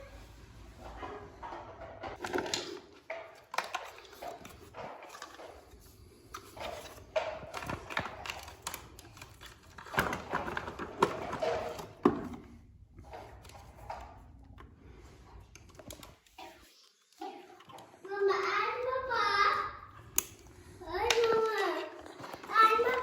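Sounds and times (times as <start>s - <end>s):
clicks and knocks of hard objects: 0.8s - 18.2s, 20.0s - 23.0s.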